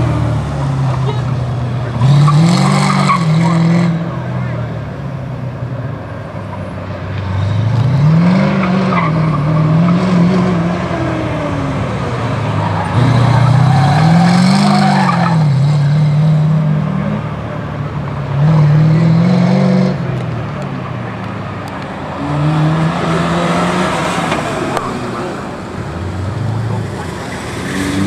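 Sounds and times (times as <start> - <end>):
car engine revving: 0.0 - 5.3, 7.1 - 28.0.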